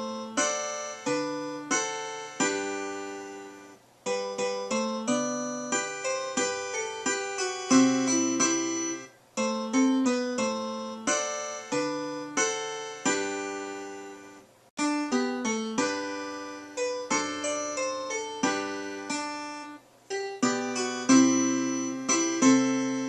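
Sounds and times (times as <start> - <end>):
slow keyboard tune: 0.0 - 23.0.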